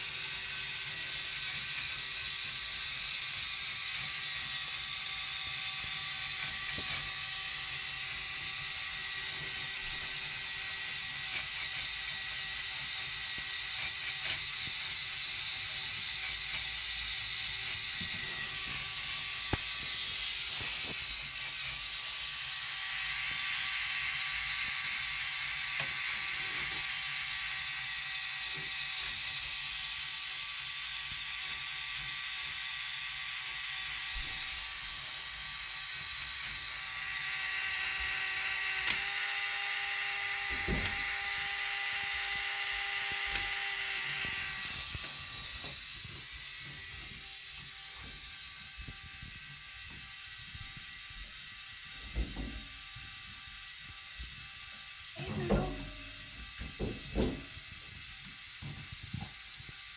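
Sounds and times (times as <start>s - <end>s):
electric motors whirring: 0.0s - 59.9s.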